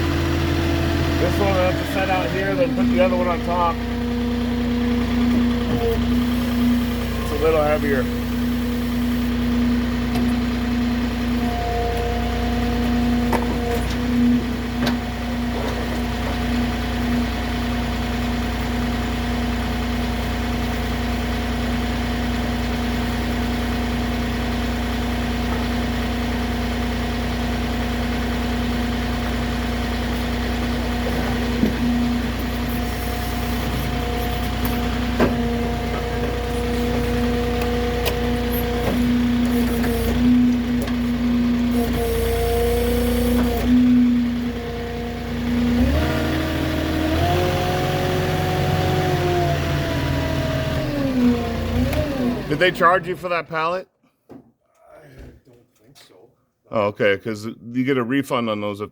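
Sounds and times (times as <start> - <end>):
forklift engine running: 0.0 - 53.4.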